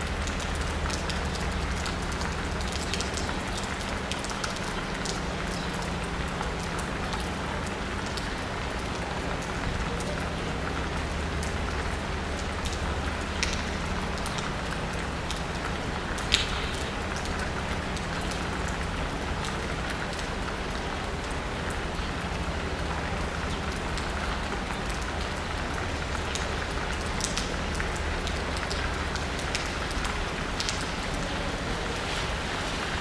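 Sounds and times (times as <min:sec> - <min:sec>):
raindrops pattering close by: 0:00.0 - 0:33.0
steady rain falling: 0:00.0 - 0:33.0.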